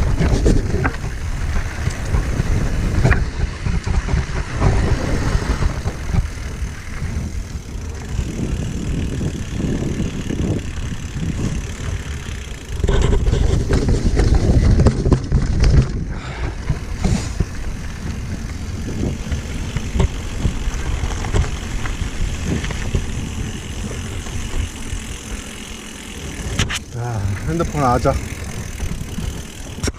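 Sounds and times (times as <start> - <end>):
wind on microphone: 0.0 - 25.4
bike clicks and rattles: 0.0 - 29.9
bike tyre noise on trail: 0.0 - 29.9.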